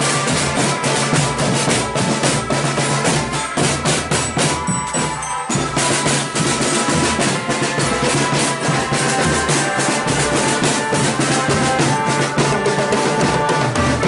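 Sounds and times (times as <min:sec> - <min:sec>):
marching drums beating: 0:00.0 - 0:14.0
held melody notes: 0:01.8 - 0:13.8.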